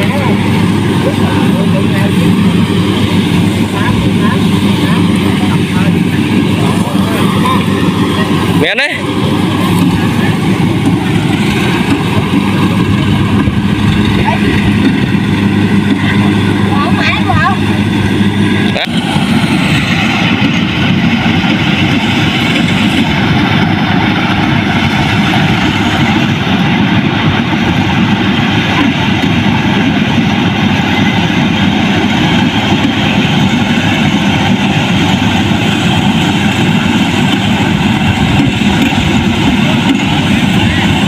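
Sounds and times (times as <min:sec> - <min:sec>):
combine harvester engine running: 0:00.0 - 0:41.0.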